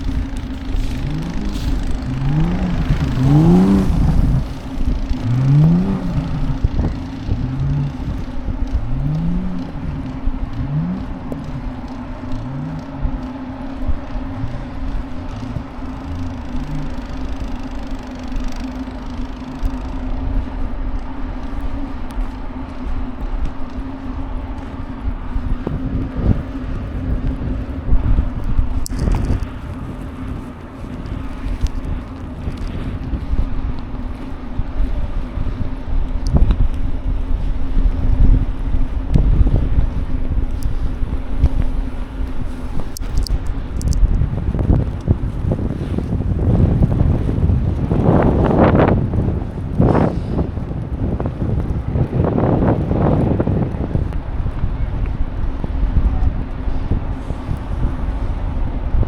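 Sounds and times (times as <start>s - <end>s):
car engine revving: 0.0s - 58.5s
steady low hum: 0.0s - 59.0s
wind buffeting microphone: 0.0s - 59.0s.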